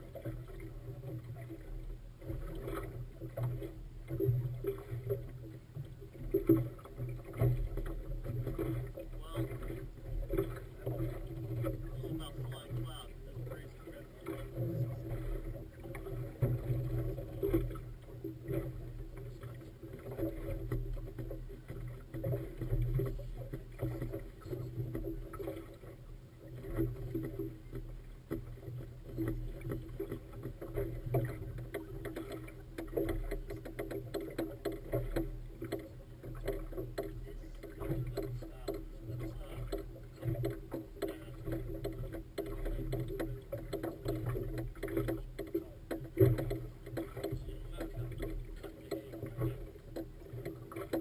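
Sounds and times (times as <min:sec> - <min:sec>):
motorboat engine running: 0:00.0 - 0:51.0
water splashing against hull: 0:00.0 - 0:51.0.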